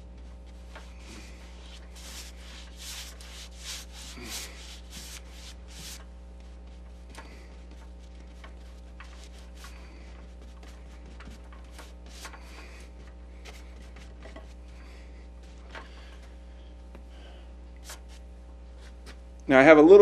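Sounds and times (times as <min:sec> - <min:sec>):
paintbrush strokes on canvas: 0:00.0 - 0:14.8, 0:17.8 - 0:19.0
steady electrical hum: 0:00.0 - 0:20.0.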